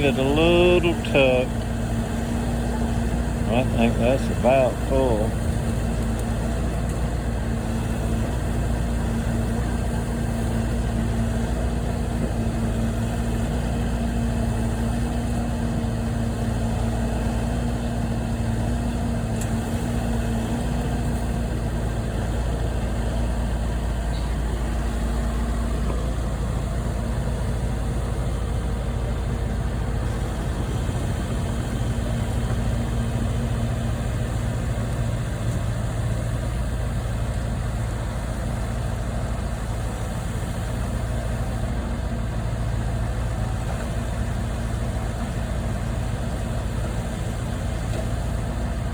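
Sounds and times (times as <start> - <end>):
engine idling hum: 0.0 - 48.9.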